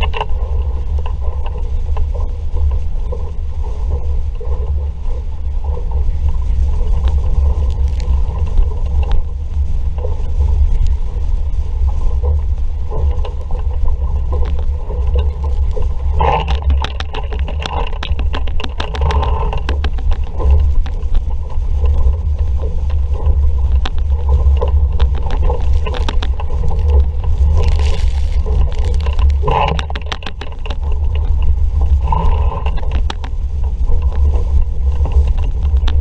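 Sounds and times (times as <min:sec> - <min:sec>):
rapid rattling and clattering: 0:00.0 - 0:36.0
wind buffeting microphone: 0:00.0 - 0:36.0.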